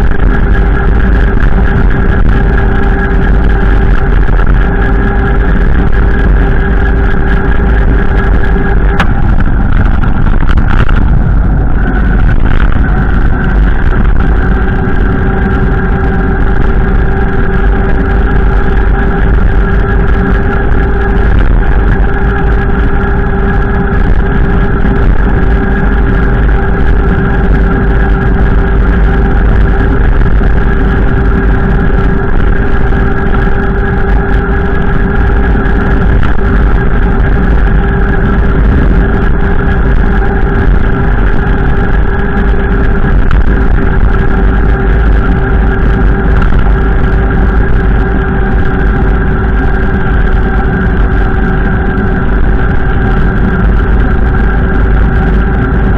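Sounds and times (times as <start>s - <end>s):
steady hum of even tones: 0.0s - 55.9s
wind buffeting microphone: 0.0s - 55.9s.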